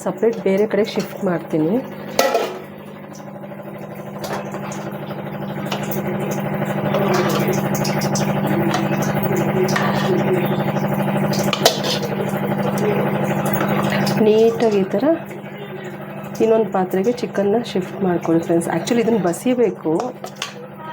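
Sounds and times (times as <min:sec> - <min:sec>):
utensils clinking: 0:00.0 - 0:20.8
droning motor hum: 0:00.0 - 0:20.9.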